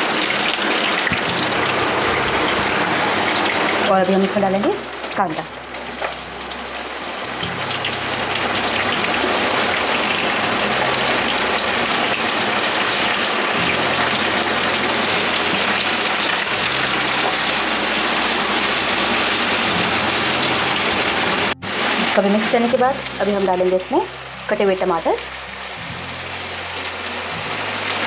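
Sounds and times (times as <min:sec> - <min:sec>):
onions sizzling in hot oil: 0:00.0 - 0:28.0.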